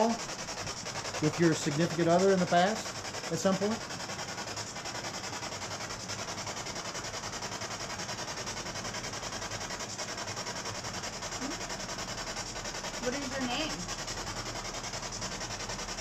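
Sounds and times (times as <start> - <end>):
pulsing radio static hiss: 0.0 - 16.0.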